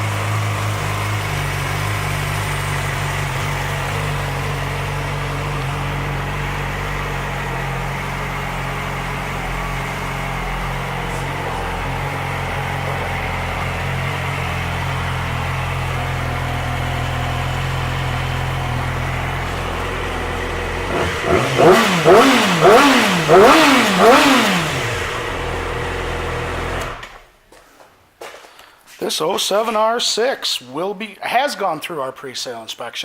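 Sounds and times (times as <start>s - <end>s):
motorcycle engine idling and revving: 0.0s - 27.4s.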